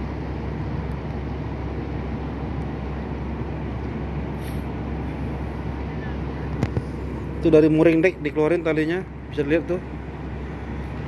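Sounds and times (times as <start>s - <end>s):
constant hum: 0.0s - 11.0s
low machinery rumble: 0.0s - 11.0s.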